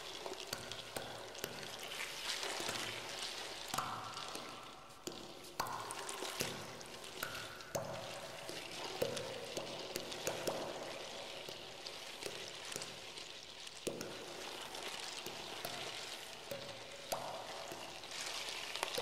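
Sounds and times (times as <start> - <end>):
trickling splashing water texture: 0.0 - 19.0.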